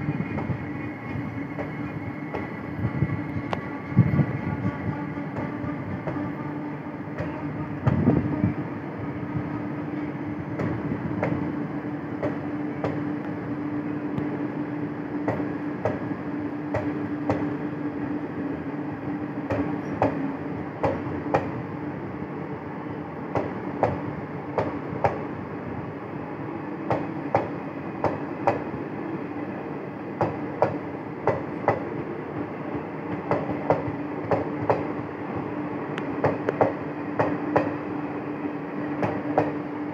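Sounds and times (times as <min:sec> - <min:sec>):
train coaches rumbling: 0:00.0 - 0:39.9.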